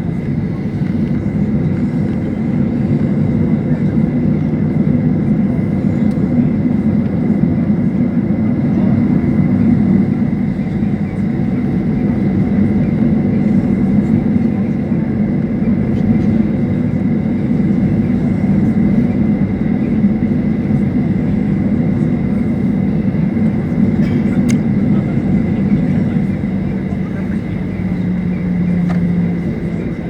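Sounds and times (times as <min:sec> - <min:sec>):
jet engines humming: 0:00.0 - 0:30.0.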